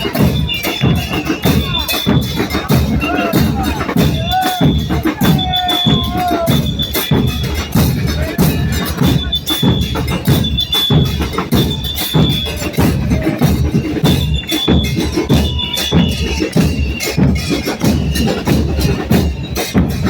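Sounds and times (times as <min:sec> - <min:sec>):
bass drums with cymbals: 0:00.0 - 0:20.0.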